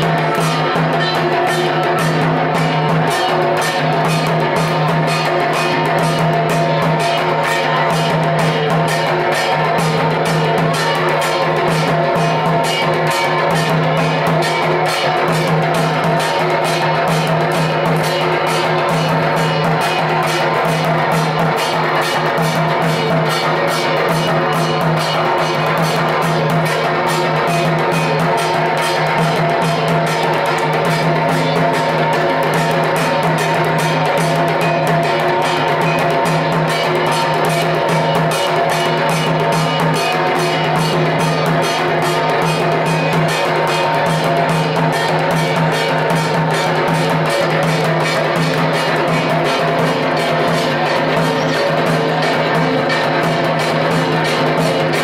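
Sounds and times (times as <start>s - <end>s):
barrel drum beaten fast: 0.0s - 55.0s.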